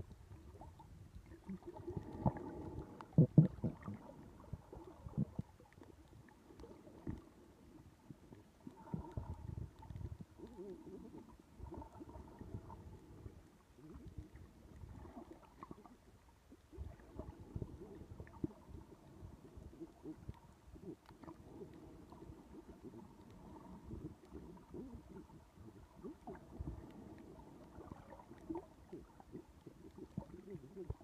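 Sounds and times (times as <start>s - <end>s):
muffled underwater rumbling: 0.0s - 31.0s.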